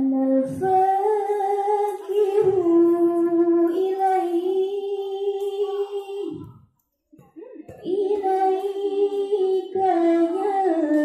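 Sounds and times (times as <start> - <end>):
girl singing devotional song: 0.0 - 11.0.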